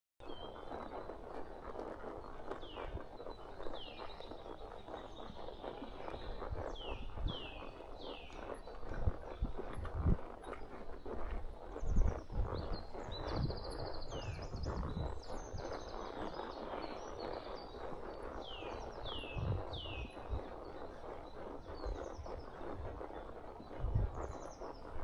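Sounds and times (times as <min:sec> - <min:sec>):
birds singing: 0:00.2 - 0:25.0
horse hooves on dirt: 0:00.2 - 0:25.0.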